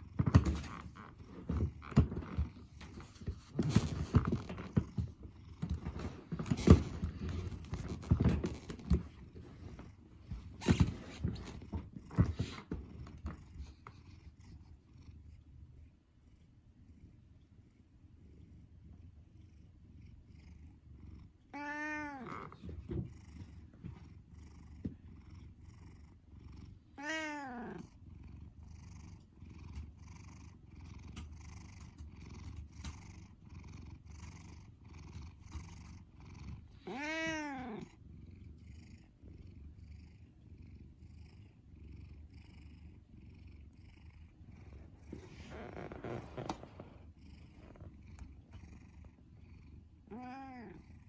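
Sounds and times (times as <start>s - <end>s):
cat purring: 0.0s - 51.0s.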